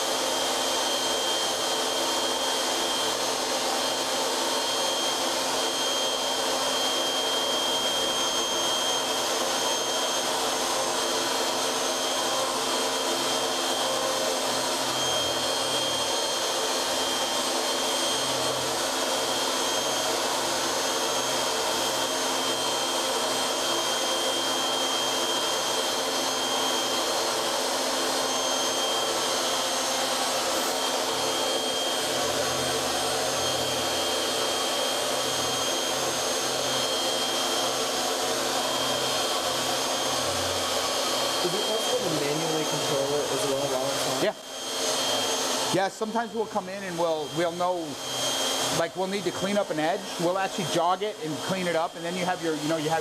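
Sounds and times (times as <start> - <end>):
router spindle whine: 0.0 - 53.0.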